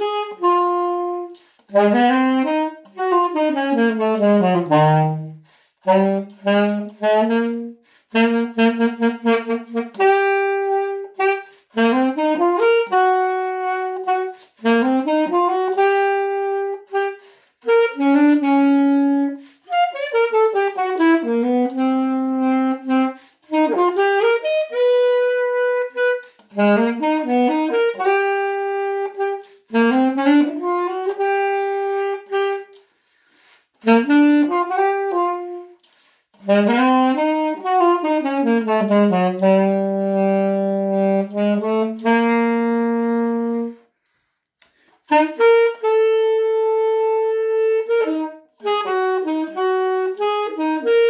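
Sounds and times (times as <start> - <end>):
solo saxophone melody: 0.0 - 51.0.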